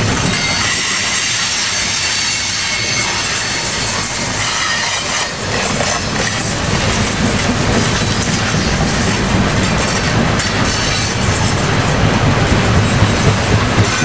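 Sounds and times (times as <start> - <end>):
freight train rumbling past: 0.0 - 14.0
steel wheels clattering on rails: 0.0 - 14.0.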